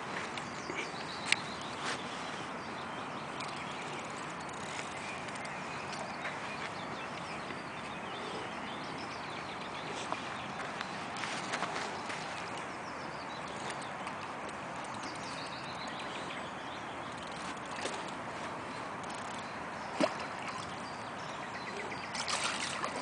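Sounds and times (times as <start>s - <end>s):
faint birdsong: 0.0s - 23.0s
steady outdoor hiss: 0.0s - 23.0s.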